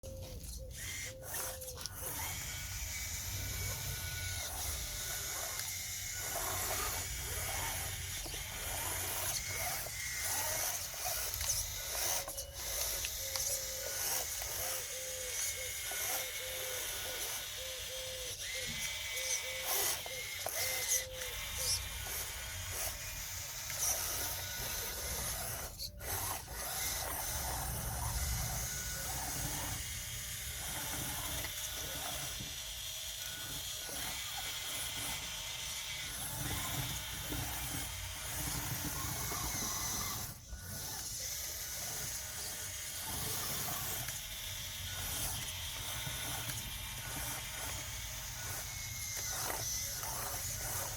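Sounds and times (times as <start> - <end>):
small electric motors whining: 0.0 - 50.9.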